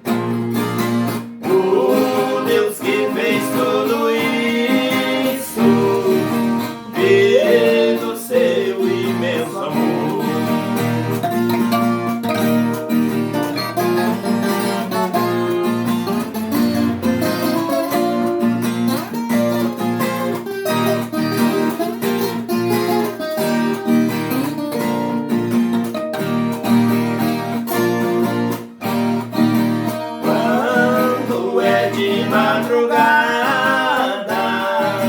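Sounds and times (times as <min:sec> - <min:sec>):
plucked string instrument: 0:00.0 - 0:35.0.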